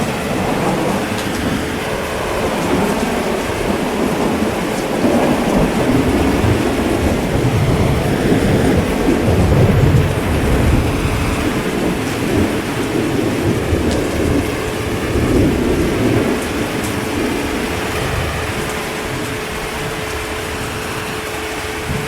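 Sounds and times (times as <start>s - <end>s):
heavy rain: 0.0s - 22.0s
thunder rumbling: 0.0s - 22.0s.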